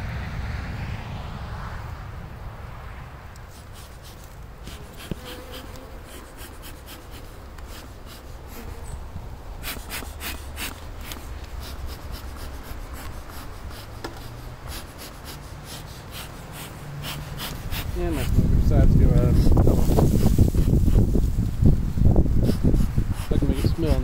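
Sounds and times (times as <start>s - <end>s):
bellows airy puffs: 3.4s - 24.0s.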